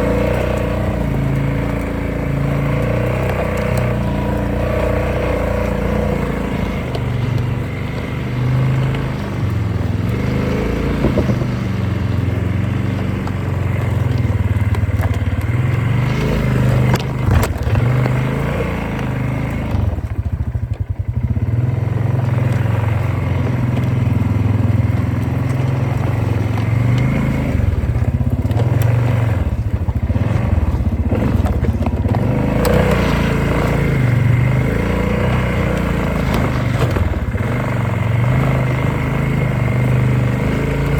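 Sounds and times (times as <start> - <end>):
off-road vehicle engine: 0.0 - 40.9.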